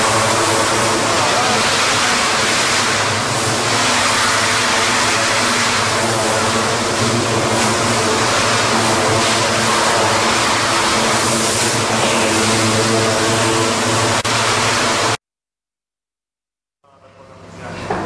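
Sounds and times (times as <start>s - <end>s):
pump motor hum: 0.0s - 15.2s
water jet hissing on steel: 0.0s - 15.2s.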